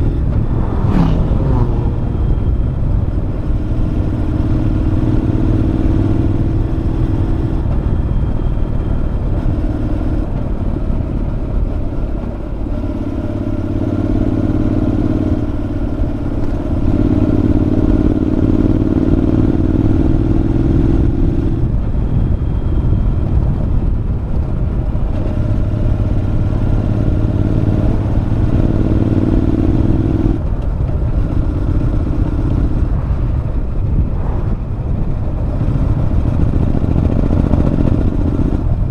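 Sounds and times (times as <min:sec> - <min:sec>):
motorcycle engine running loud: 0:00.0 - 0:38.9.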